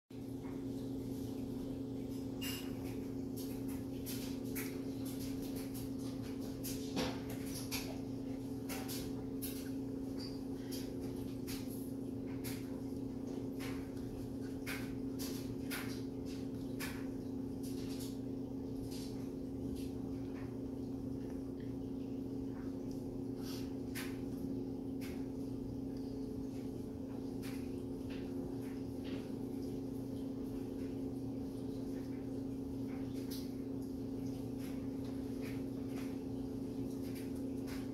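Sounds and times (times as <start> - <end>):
electrical hum: 0.1 - 37.9.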